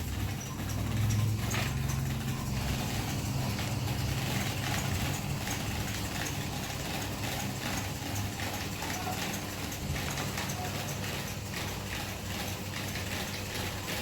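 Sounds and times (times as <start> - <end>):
electric fan humming: 0.0 - 14.0
fan blades rattling tick: 0.0 - 14.0.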